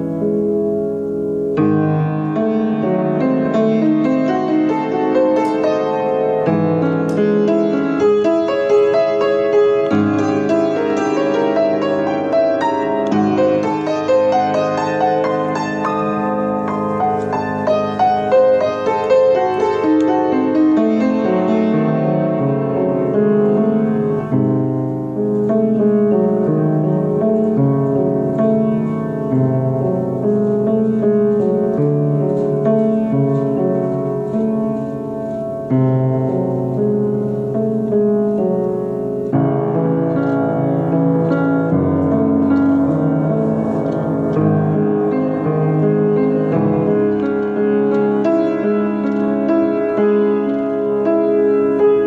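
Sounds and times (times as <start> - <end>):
solo piano piece: 0.0 - 52.0.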